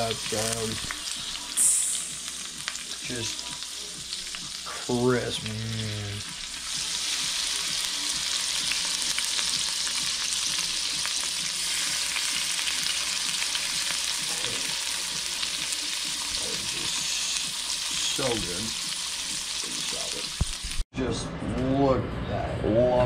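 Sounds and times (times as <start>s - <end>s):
fish frying in butter: 0.0s - 20.8s.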